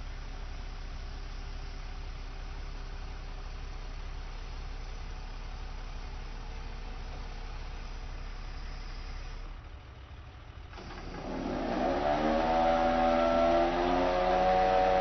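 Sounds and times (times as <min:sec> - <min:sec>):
truck engine idling and revving: 0:00.0 - 0:15.0.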